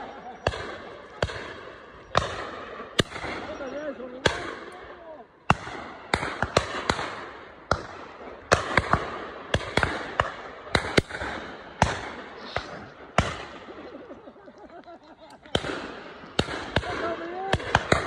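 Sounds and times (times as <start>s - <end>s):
shotguns firing: 0.0s - 14.2s, 15.0s - 18.0s.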